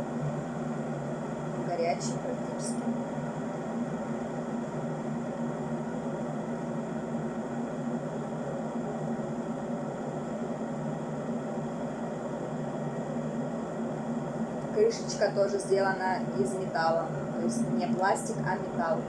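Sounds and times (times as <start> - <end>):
electric kettle heating water: 0.0 - 19.0.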